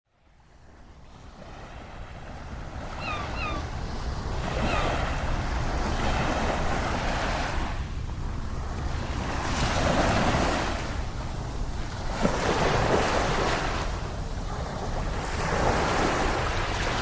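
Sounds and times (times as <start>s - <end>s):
ocean surf washing onto beach: 1.5s - 17.0s.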